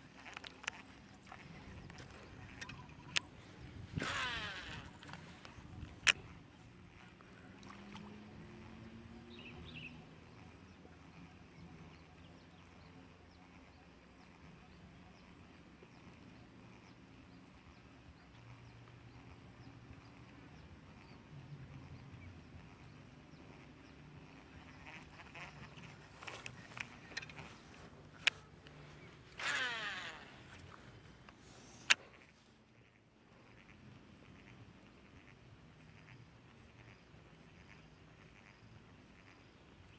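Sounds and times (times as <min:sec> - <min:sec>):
faint low hums: 0:00.0 - 0:39.9.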